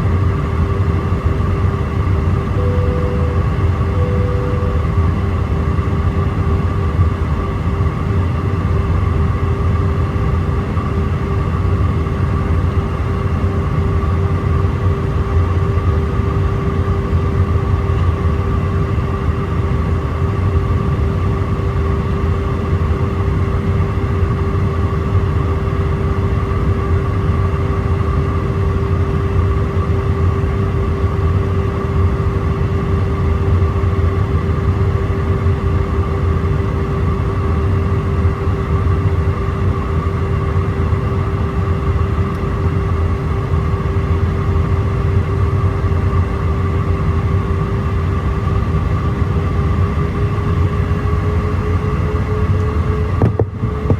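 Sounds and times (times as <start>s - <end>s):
constant humming tone: 0.0s - 53.9s
jet engine rumble in cabin: 0.0s - 53.9s.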